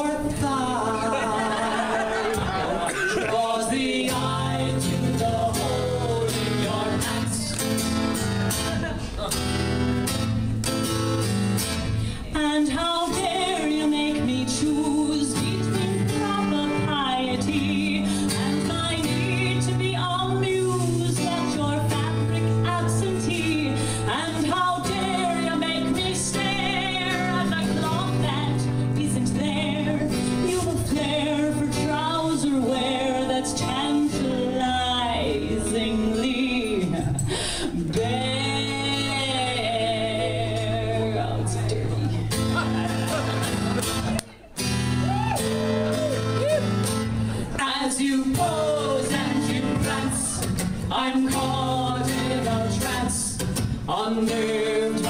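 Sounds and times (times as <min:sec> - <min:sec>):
woman singing: 0:00.0 - 0:07.6, 0:12.2 - 0:42.1, 0:47.6 - 0:55.0
strummed acoustic guitar: 0:00.0 - 0:55.0.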